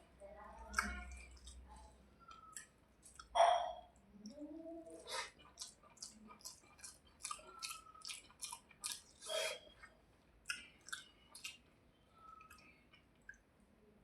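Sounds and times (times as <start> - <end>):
wet chewing: 0.5 - 13.6.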